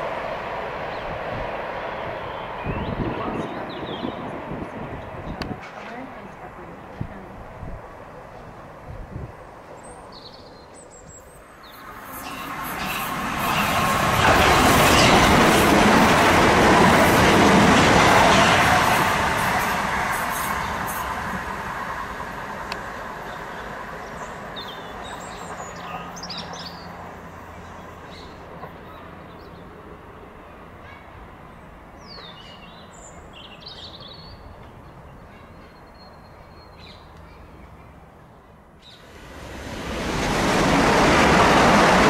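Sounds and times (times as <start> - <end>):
electric train rumble: 0.0 - 10.1, 11.4 - 32.0, 39.0 - 42.0
approaching electric train: 0.0 - 42.0.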